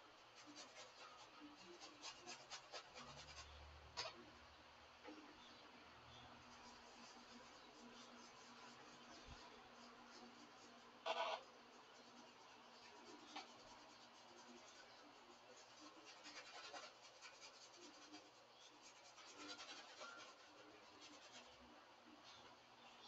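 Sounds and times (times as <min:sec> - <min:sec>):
paintbrush scratching on canvas: 0:00.0 - 0:04.2, 0:06.1 - 0:23.0.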